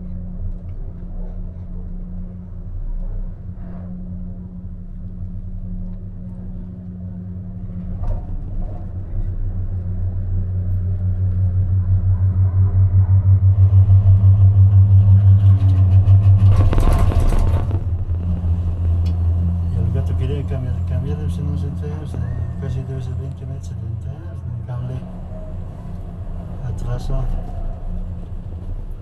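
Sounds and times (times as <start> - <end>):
cable car humming and rumbling: 0.0 - 29.0.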